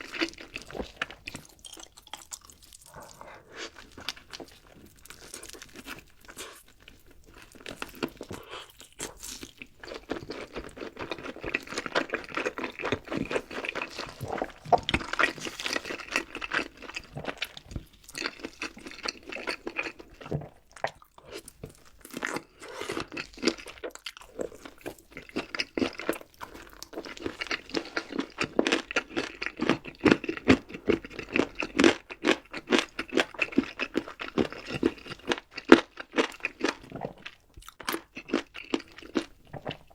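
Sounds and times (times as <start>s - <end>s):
chewing crisp food: 0.0s - 39.9s.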